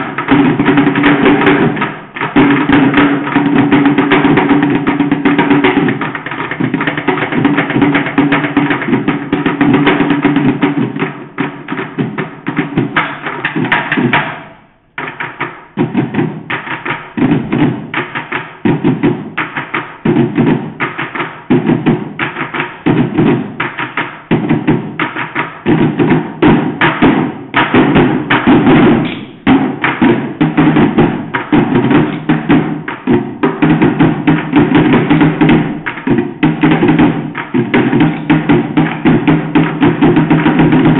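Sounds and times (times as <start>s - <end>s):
buckets drummed with sticks: 0.0s - 40.9s.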